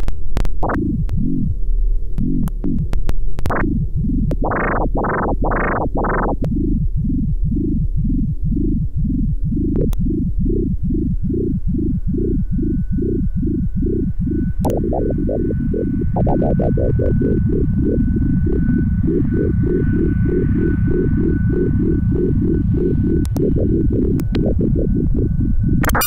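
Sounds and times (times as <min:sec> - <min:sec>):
pulsing synthesizer music: 0:00.6 - 0:26.0.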